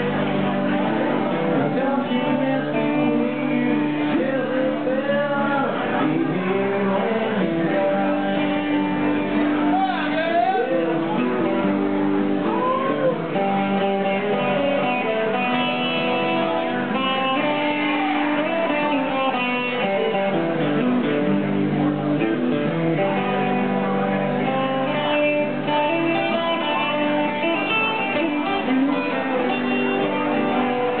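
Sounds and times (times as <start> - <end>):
acoustic guitar: 0.0 - 31.0
electric guitar: 0.0 - 31.0
live band playing: 0.0 - 31.0.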